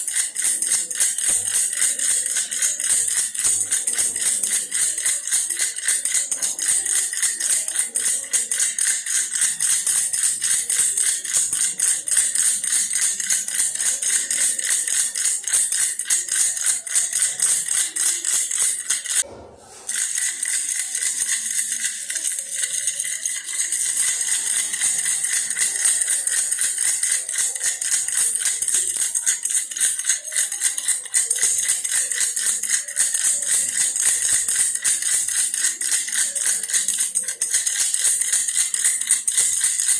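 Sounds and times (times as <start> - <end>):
toy rattle jingling: 0.0 - 39.9.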